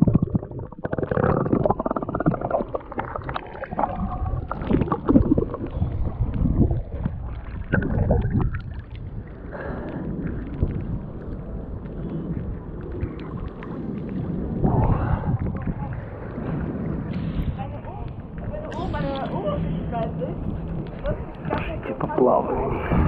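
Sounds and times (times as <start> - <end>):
water sloshing against microphone: 0.0 - 23.0.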